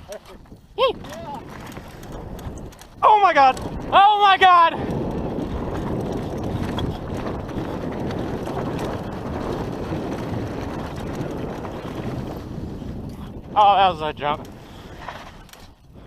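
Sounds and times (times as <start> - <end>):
bike tyres rumbling on dirt: 0.0 - 16.0
wind on microphone: 0.0 - 16.0.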